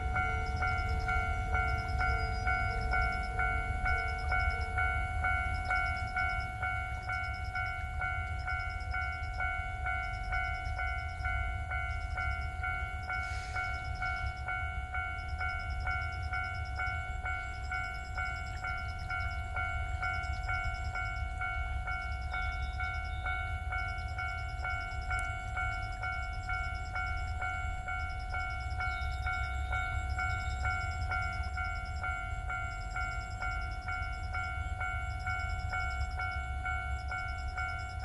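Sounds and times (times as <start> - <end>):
level-crossing warning bell ringing: 0.0 - 38.0.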